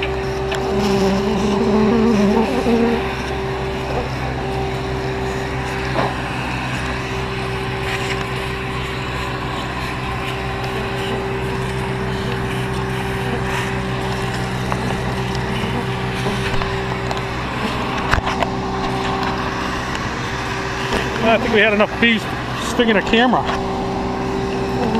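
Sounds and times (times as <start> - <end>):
vacuum motor drone: 0.0 - 24.9.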